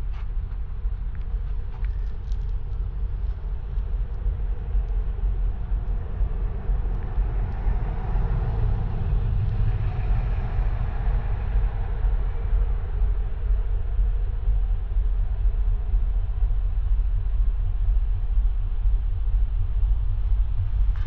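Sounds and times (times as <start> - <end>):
ship engine low rumble: 0.0 - 21.0.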